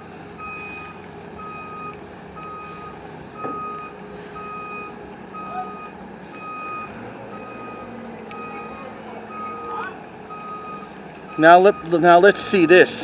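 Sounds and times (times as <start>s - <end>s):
truck engine running: 0.0s - 13.0s
truck reversing alarm beeping: 0.0s - 13.0s.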